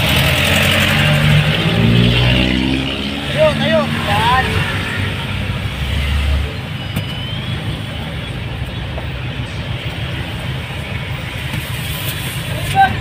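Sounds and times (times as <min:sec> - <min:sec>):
engine and road rumble in cabin: 0:00.0 - 0:13.0.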